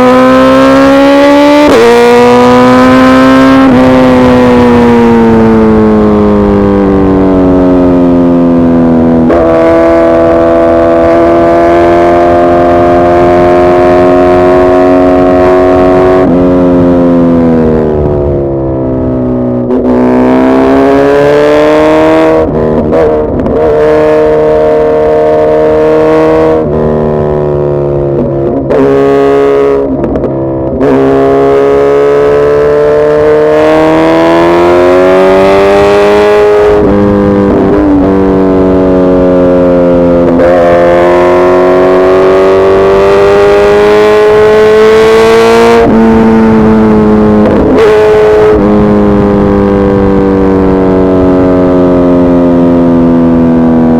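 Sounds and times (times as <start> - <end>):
motorcycle engine revving through gears: 0.0 - 53.9.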